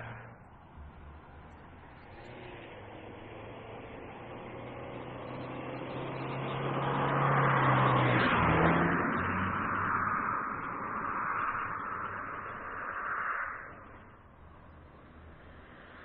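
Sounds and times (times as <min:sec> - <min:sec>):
car driving past: 0:00.0 - 0:16.0.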